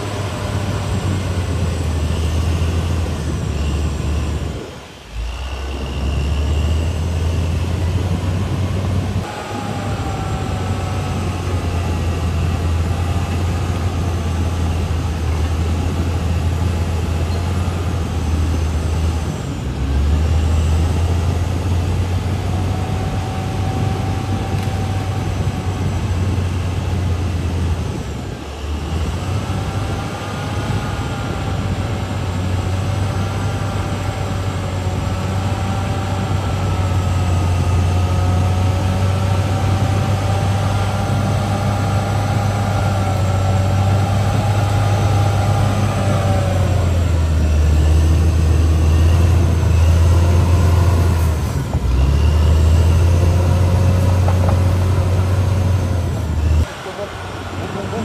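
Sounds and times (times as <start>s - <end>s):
bulldozer diesel engine running: 0.0s - 58.0s
wavering high whine: 0.0s - 58.0s.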